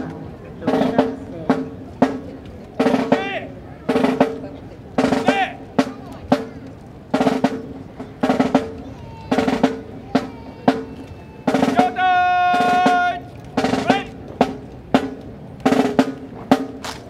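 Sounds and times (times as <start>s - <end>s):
marching snare drums: 0.0s - 17.0s.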